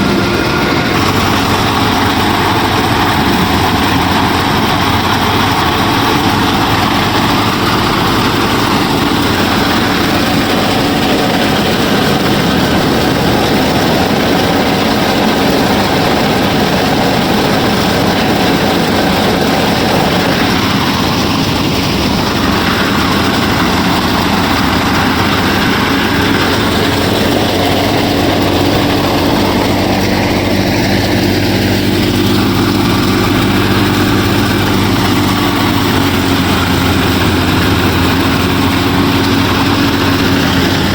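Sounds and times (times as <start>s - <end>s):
small motor droning: 0.0s - 40.9s.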